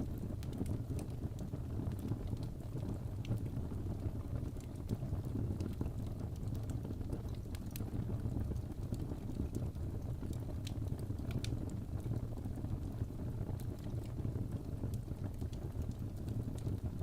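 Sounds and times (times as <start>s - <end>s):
fire crackles and pops: 0.0s - 17.0s
low roar of fire flames: 0.0s - 17.0s.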